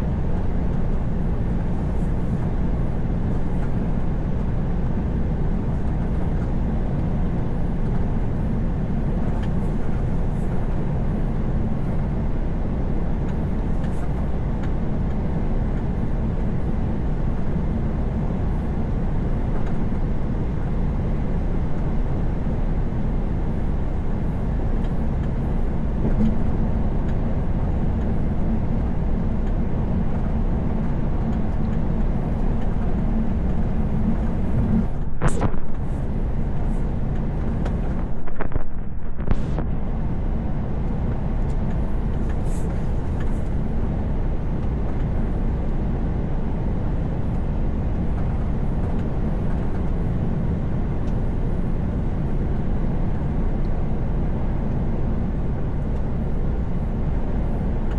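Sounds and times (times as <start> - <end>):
truck engine and tyre drone: 0.0 - 57.9.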